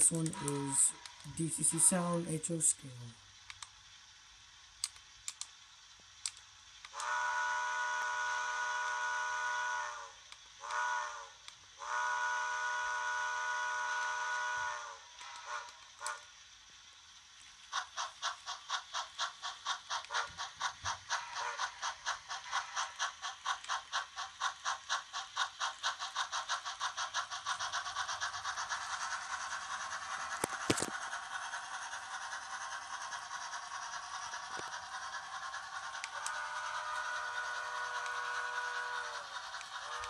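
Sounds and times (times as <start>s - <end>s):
model train steam chuffs: 0.0s - 40.0s.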